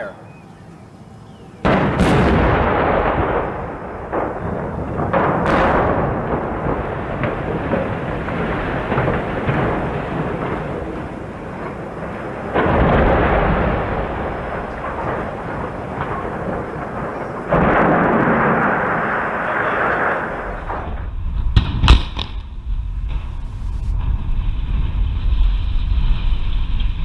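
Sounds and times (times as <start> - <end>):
explosive charges blasting: 1.7 - 23.6
heavy crashes: 1.7 - 27.0.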